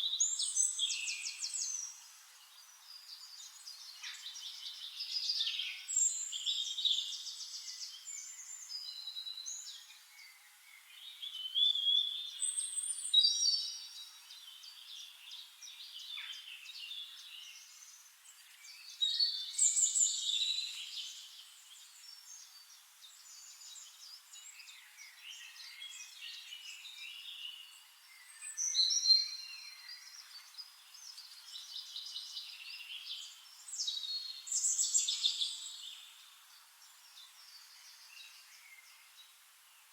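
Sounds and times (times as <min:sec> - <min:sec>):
wild birds singing: 0:00.0 - 0:39.9.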